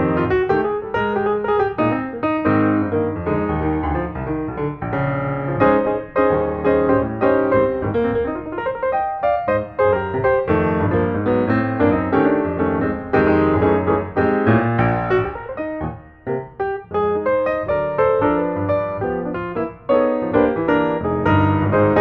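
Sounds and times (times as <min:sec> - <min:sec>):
lively piano music: 0:00.0 - 0:22.0.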